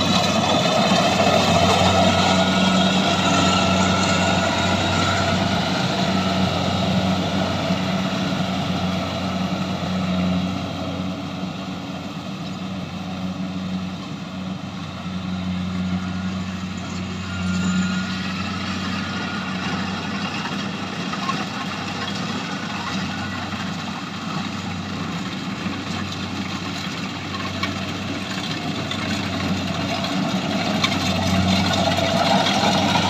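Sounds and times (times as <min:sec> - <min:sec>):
diesel engine running: 0:00.0 - 0:33.0
harvester machinery noise: 0:00.0 - 0:33.0.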